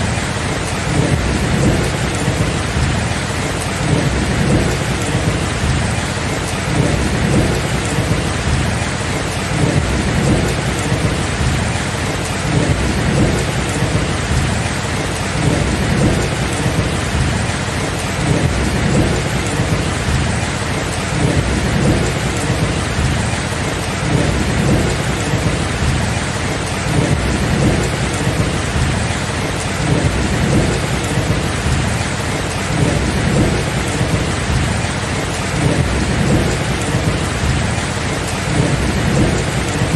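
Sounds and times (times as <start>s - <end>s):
low thunder rumbling: 0.0s - 39.9s
steady rain: 0.0s - 39.9s.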